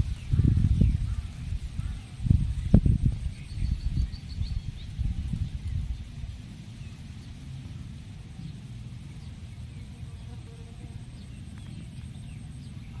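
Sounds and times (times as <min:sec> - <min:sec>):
low rumble of wind on microphone: 0:00.0 - 0:13.0.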